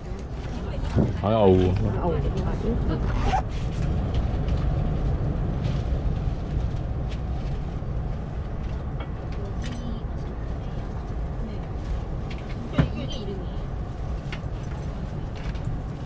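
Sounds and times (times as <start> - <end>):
aircraft cabin low rumble: 0.0 - 16.0
faint clicks and rustles: 0.0 - 16.0.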